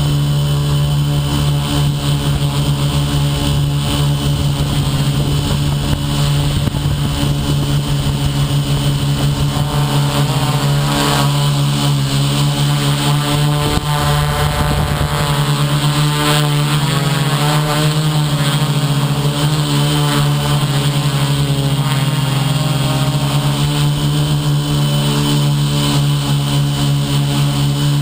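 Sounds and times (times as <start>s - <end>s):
drone motors humming: 0.0s - 28.0s.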